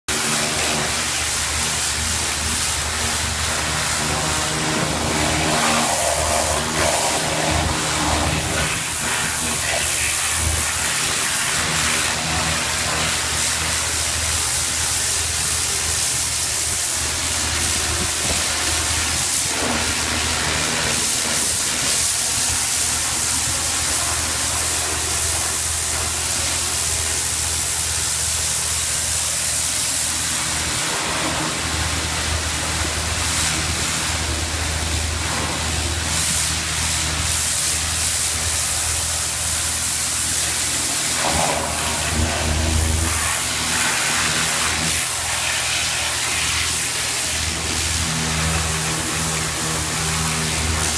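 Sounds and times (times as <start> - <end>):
pressure washer motor droning: 0.0 - 50.9
pressure washer jet hissing on concrete: 0.1 - 50.9.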